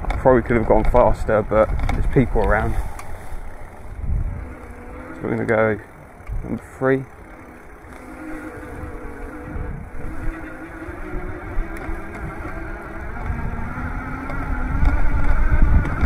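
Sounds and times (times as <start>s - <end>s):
wind rumble on microphone: 0.0s - 6.6s, 7.2s - 16.0s
electric motor whine: 2.3s - 16.0s.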